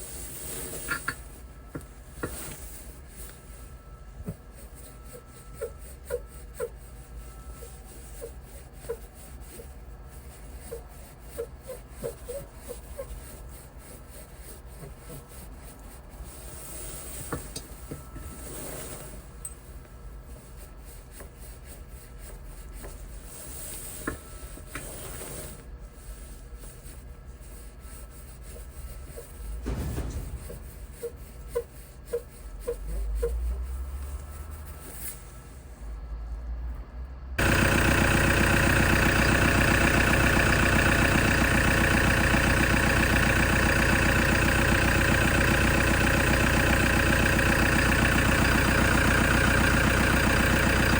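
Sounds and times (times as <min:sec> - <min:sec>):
steering squeaking and creaking: 0:00.0 - 0:35.5, 0:37.4 - 0:50.9.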